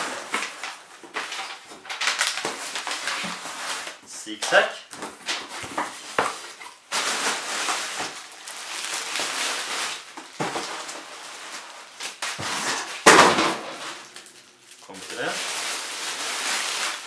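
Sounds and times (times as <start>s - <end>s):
crinkly plastic rustling: 0.0s - 17.0s.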